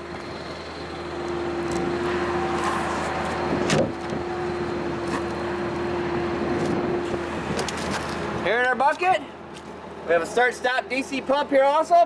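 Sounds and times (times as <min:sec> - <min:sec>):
truck engine and pump hum: 0:00.0 - 0:12.0.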